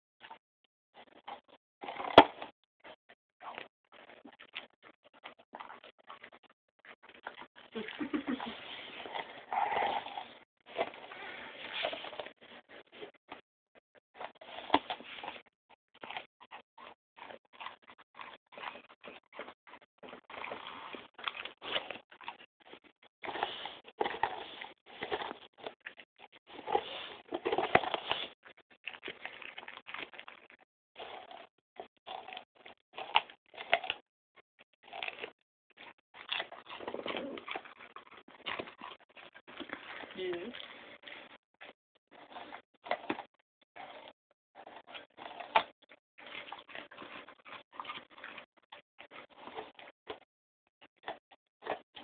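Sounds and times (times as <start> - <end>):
dog chewing pumpkin: 1.0 - 6.3, 7.0 - 13.4, 14.2 - 34.0, 34.8 - 41.4, 42.1 - 50.2, 51.0 - 52.0.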